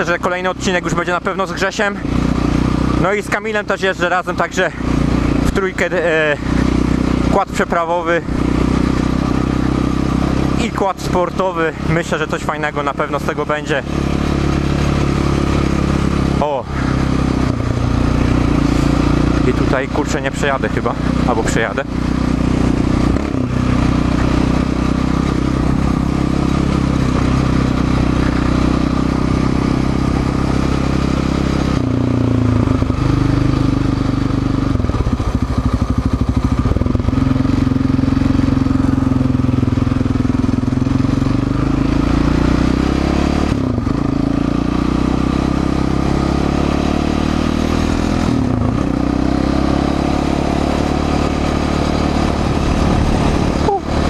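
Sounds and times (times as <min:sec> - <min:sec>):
quad engine revving: 0:00.0 - 0:54.0.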